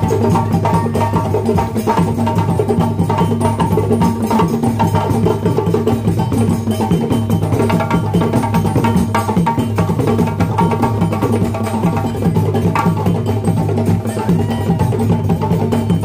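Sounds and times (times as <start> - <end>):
hand drums playing rhythm: 0.0 - 16.0.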